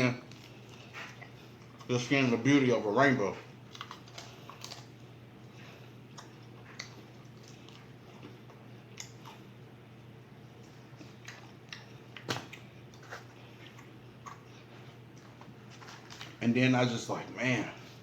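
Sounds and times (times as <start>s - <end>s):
chewing food: 0.2s - 16.5s.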